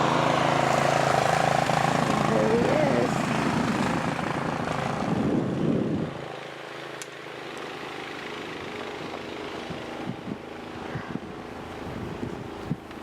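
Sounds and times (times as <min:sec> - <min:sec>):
snowblower engine running: 0:00.0 - 0:13.0.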